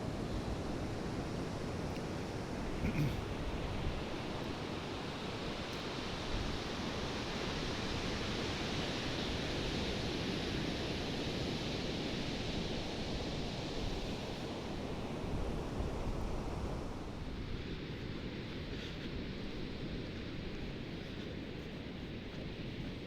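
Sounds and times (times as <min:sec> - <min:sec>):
ocean surf on beach: 0:00.0 - 0:23.0.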